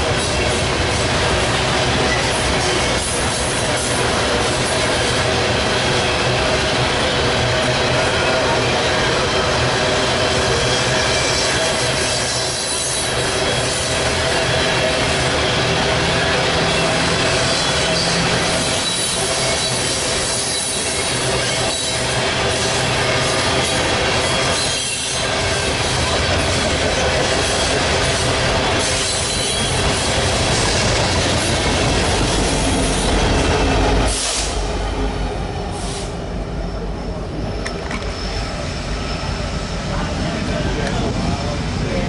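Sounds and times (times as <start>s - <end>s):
train wheels rushing on rail: 0.0s - 42.0s
high wheel squealing: 2.0s - 34.6s, 35.8s - 40.7s.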